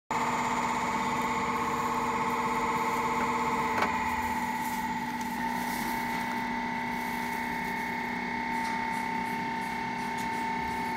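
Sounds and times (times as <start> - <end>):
machine whine: 0.1 - 10.9.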